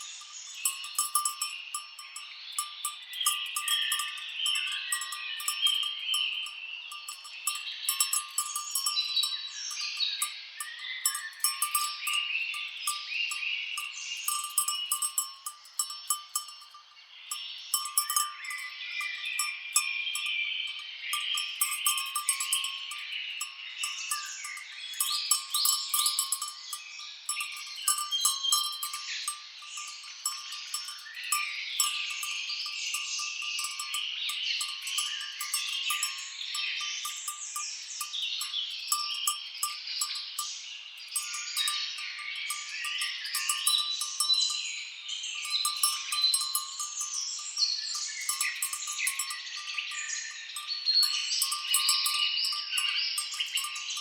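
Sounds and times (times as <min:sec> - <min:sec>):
birds calling: 0:00.0 - 0:54.0
cattle bells clanking: 0:00.0 - 0:54.0.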